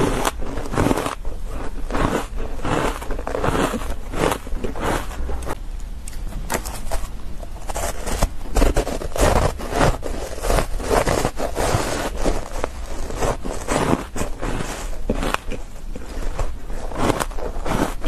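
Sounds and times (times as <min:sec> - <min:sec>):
chewing and crunching ice: 0:00.0 - 0:05.6, 0:07.6 - 0:18.0.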